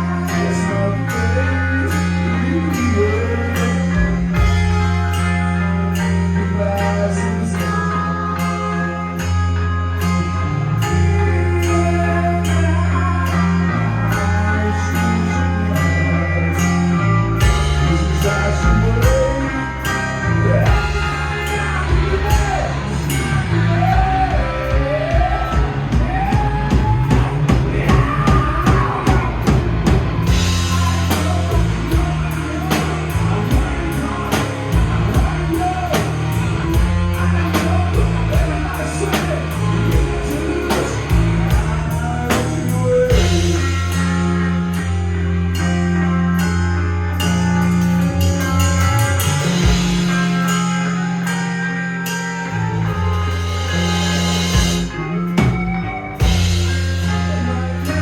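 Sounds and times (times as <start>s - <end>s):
bass: 0.0s - 58.0s
drum kit: 0.0s - 58.0s
guitar: 0.0s - 58.0s
person singing: 0.0s - 58.0s.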